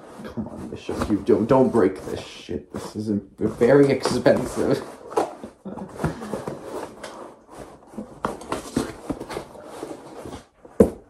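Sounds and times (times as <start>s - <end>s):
cardboard scraping and rubbing: 0.0s - 11.0s.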